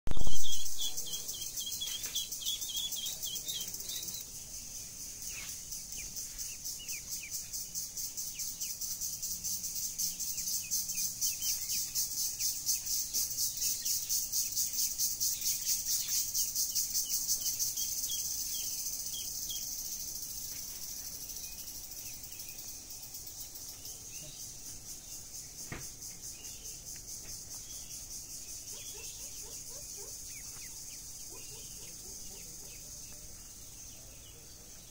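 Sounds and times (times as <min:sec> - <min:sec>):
birds chirping: 0:00.1 - 0:34.9
insects chirring: 0:00.1 - 0:34.9.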